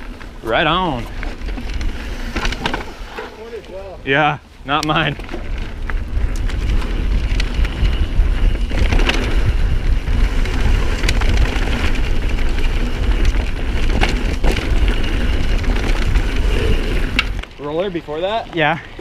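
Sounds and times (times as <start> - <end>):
bike rattling over bumps: 0.0 - 19.0
tyre noise on dirt: 0.0 - 19.0
wind rumbling on microphone: 0.0 - 19.0.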